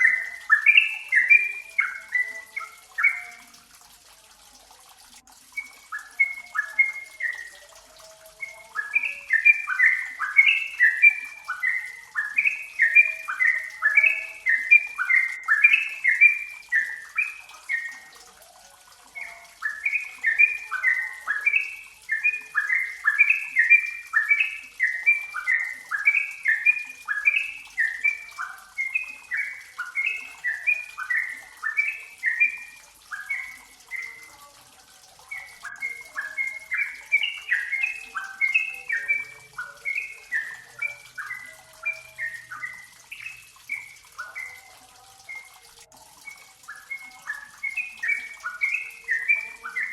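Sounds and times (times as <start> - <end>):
bird singing bubbling chatter: 0.0 - 49.9.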